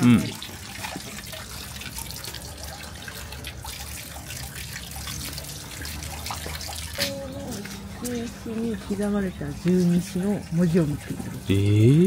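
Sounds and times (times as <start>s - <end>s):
water trickling into stone basin: 0.0s - 12.0s.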